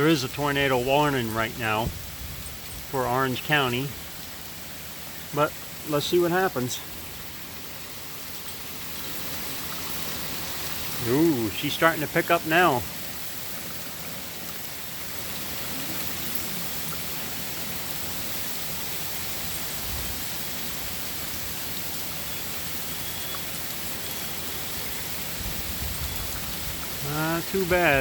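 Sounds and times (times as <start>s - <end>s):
heavy rain hissing: 0.0s - 28.0s.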